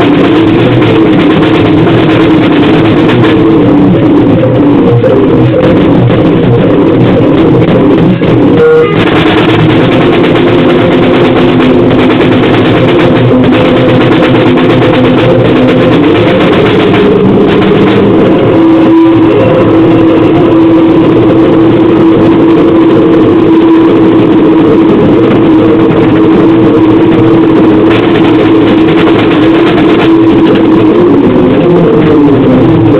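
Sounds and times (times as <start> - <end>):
distorted noise music: 0.0 - 32.9.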